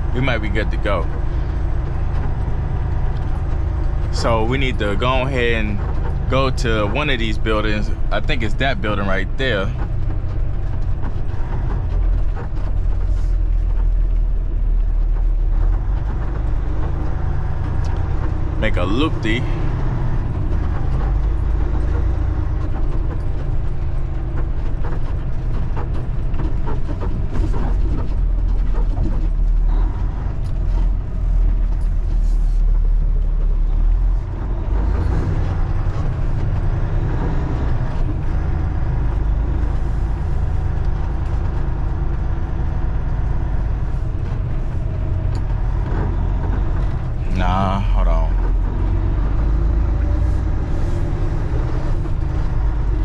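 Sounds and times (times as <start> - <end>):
knocks and clunks: 0.0 - 53.0
truck diesel engine running: 0.0 - 53.0.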